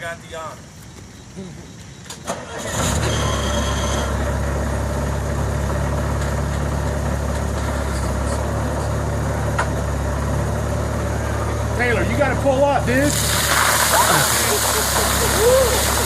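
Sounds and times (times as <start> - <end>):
loader engine idling: 2.6 - 16.0.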